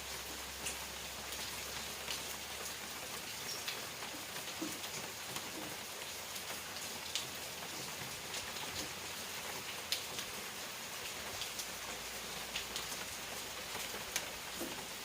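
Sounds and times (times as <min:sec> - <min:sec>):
raindrops ticking on a surface: 0:00.0 - 0:15.0
steady rain falling: 0:00.0 - 0:15.0.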